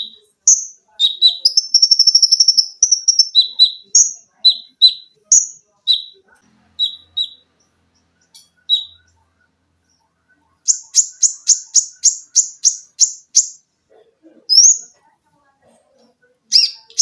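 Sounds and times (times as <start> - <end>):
songbird singing: 0.0 - 15.2, 16.2 - 17.0.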